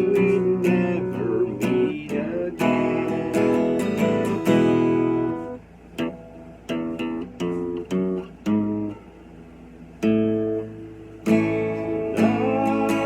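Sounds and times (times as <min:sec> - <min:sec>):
acoustic guitar picking and strumming: 0:00.0 - 0:13.0.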